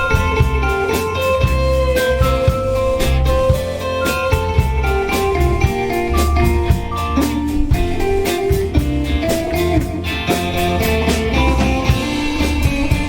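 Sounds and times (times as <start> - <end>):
lead guitar melody: 0.0 - 13.0
live band playing instrumental: 0.0 - 13.0.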